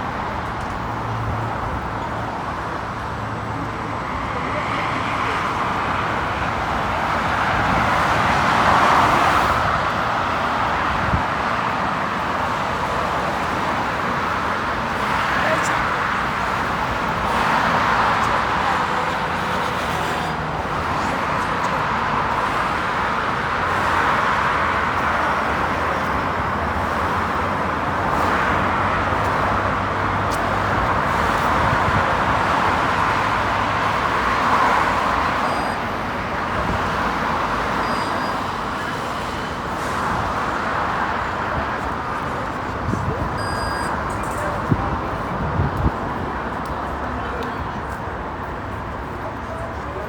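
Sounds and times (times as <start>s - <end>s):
cars passing on a street: 0.0s - 50.0s.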